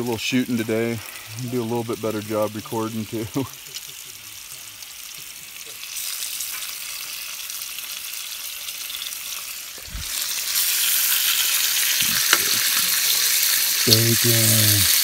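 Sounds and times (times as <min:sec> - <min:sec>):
bacon sizzling on a griddle: 0:00.0 - 0:15.0.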